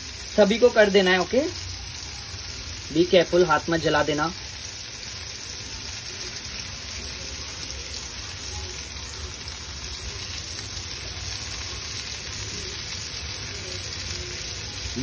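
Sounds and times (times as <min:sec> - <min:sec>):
prawns sizzling in oil: 0:00.0 - 0:15.0.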